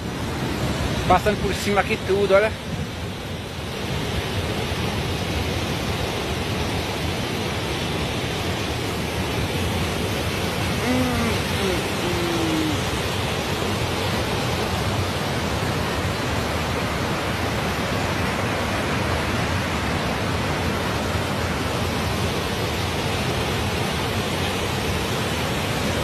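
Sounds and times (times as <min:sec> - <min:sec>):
floodwater rushing over spillway: 0:00.0 - 0:26.0.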